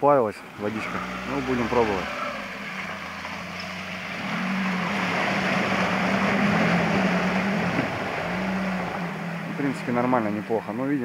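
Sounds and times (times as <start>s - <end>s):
car engine running under load: 0.0s - 11.0s
muddy water splashing: 0.2s - 11.0s.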